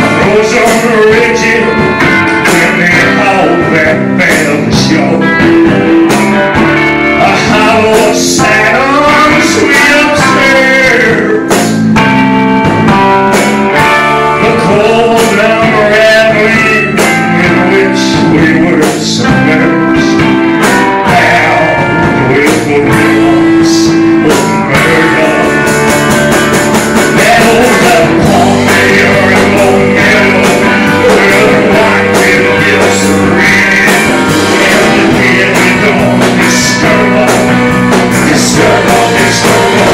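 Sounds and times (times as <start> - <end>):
man singing: 0.0 - 12.1, 12.9 - 39.9
drum kit: 0.0 - 39.9
electric guitar: 0.0 - 39.9.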